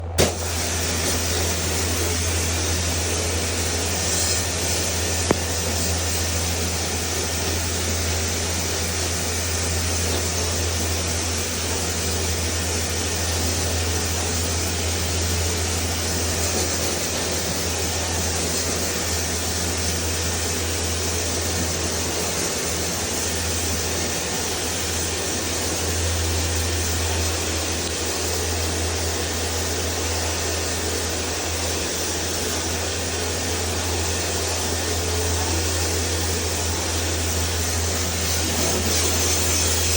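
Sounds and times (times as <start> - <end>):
machine motor hum: 0.0 - 39.9.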